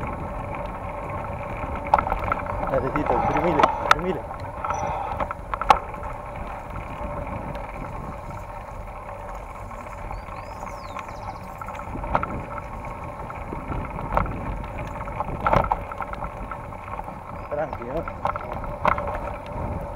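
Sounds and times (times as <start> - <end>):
bike knocking and rattling: 0.0 - 19.9
bike tyres rumbling on dirt: 0.0 - 19.9
wind on microphone: 0.0 - 19.9.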